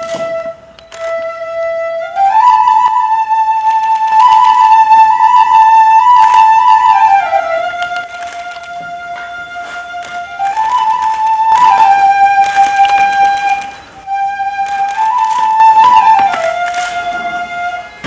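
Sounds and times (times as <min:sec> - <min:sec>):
wind instrument sliding notes: 0:00.0 - 0:18.0.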